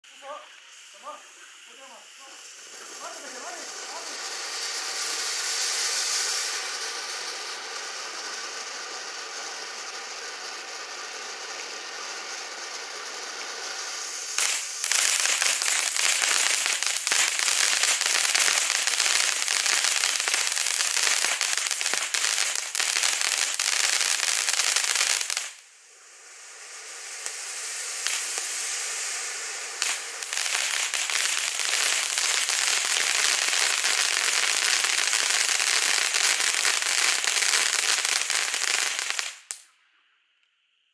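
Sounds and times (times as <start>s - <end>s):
firework crackling: 0.0s - 40.9s
firework hissing: 0.0s - 40.9s.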